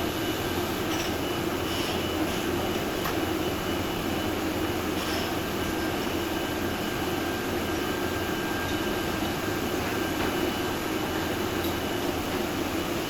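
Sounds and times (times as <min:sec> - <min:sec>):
machinery low hum: 0:00.0 - 0:13.0.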